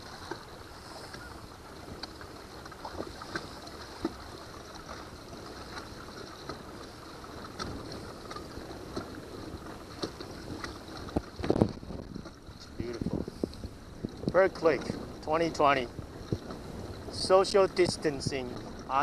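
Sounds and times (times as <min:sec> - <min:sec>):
water lapping against hull: 0:00.0 - 0:19.0.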